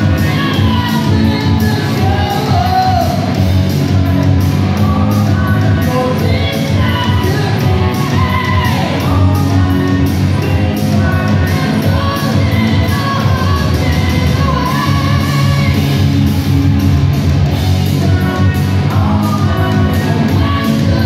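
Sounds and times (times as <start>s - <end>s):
man singing and shouting: 0.0s - 3.5s, 4.6s - 16.0s, 17.9s - 21.0s
live hard rock band: 0.0s - 21.0s.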